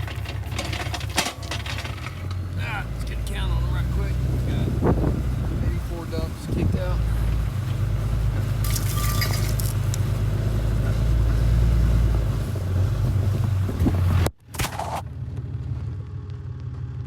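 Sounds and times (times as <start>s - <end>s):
truck engine humming: 0.0s - 14.3s.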